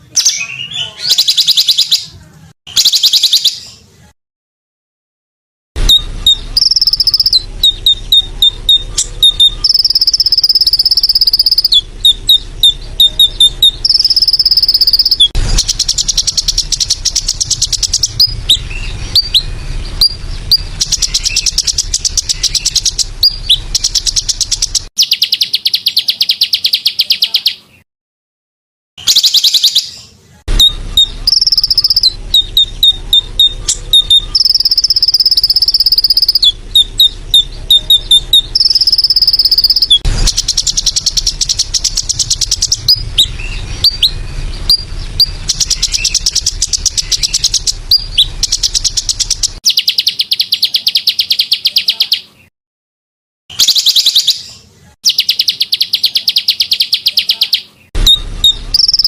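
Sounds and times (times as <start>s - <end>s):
sharp rapid bird chirps: 0.0s - 3.8s, 5.8s - 27.8s, 29.0s - 52.5s, 53.5s - 59.0s
fast buzzing bird trill: 2.7s - 3.6s, 5.8s - 27.1s, 29.0s - 29.9s, 30.5s - 52.2s, 55.0s - 59.0s.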